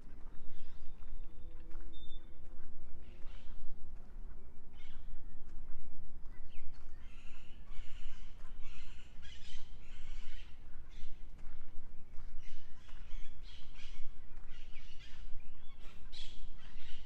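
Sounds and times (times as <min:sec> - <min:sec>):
forest birds chirping: 0:00.0 - 0:17.0.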